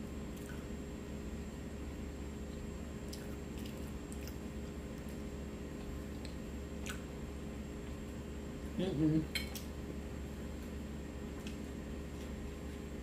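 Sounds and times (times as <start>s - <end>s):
steady low hum: 0.0s - 13.0s
soft chewing and mouth sounds: 0.3s - 0.8s, 2.3s - 13.0s.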